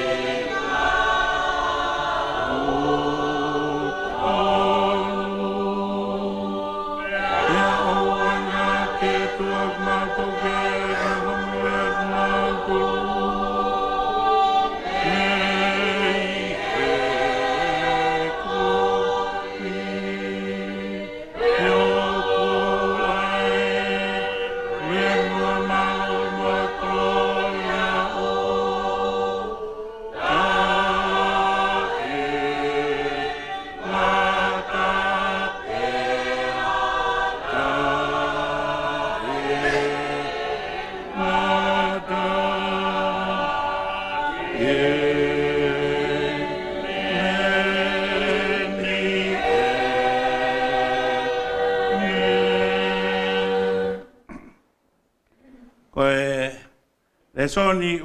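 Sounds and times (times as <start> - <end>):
group singing a hymn: 0.0 - 54.5.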